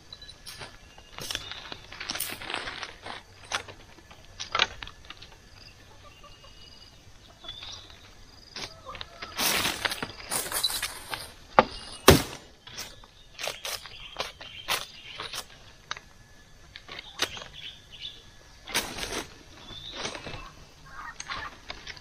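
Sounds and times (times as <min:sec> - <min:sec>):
dry leaves and sticks crackling: 0:00.0 - 0:06.1, 0:07.0 - 0:22.0.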